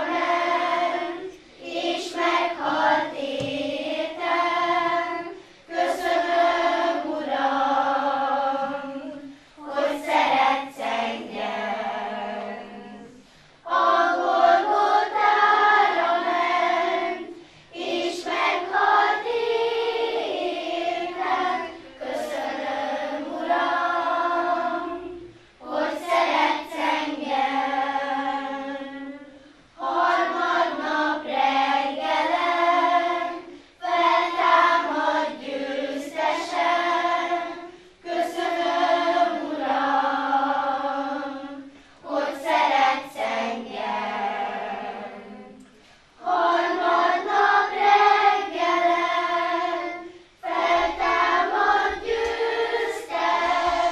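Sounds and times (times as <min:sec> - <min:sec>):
children's choir singing: 0:00.0 - 0:53.9.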